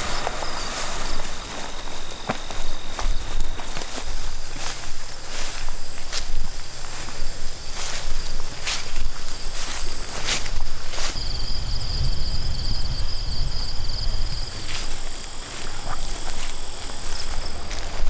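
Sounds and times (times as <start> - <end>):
footsteps through tall grass: 0.0 - 11.6, 13.6 - 18.0
insects trilling: 0.0 - 18.0.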